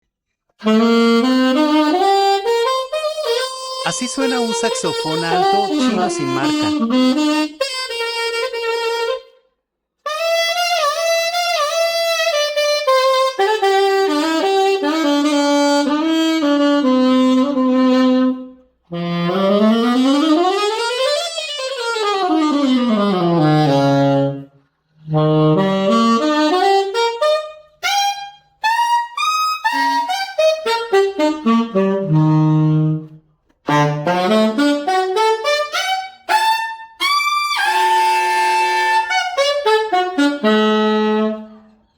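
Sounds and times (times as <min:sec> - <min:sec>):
saxophone solo: 0:00.6 - 0:41.9.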